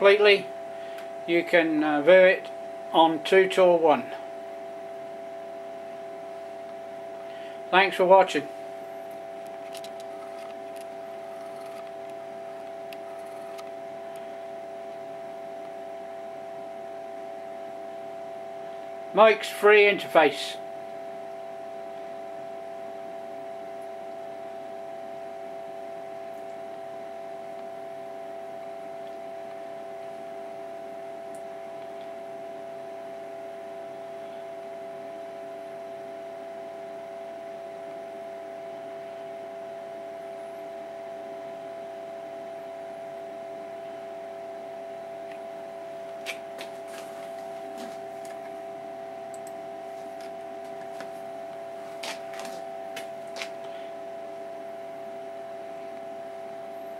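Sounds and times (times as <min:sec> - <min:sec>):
computer fan humming: 0:00.0 - 0:56.9.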